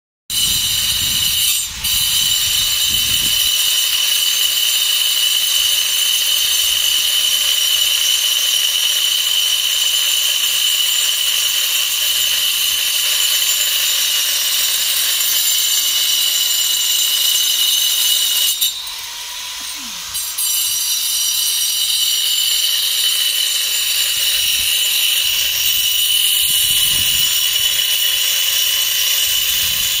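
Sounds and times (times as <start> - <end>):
angle grinder cutting stone: 0.3 - 30.0.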